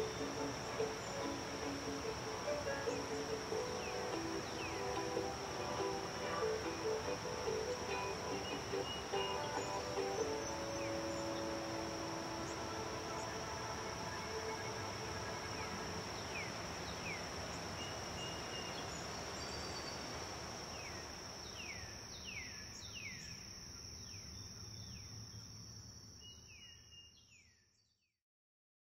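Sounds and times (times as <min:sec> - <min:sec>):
high-pitched insect drone: 0:00.0 - 0:25.1.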